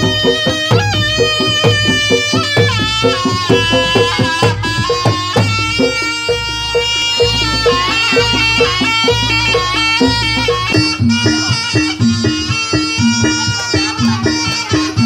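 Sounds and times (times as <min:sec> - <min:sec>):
reedy nasal shawm melody: 0:00.0 - 0:15.0
repeating percussion pattern: 0:00.0 - 0:15.0.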